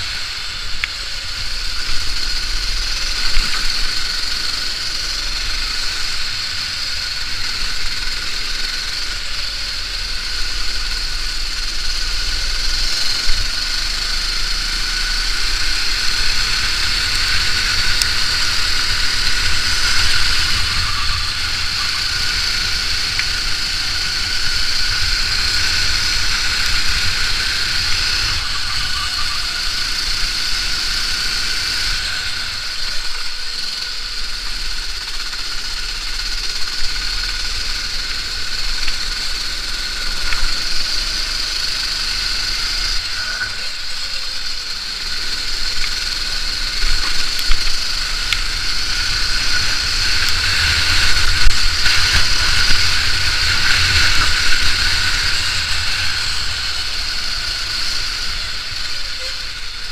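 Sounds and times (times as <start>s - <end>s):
racing kart engine: 0.0s - 59.9s
wind: 0.0s - 59.9s.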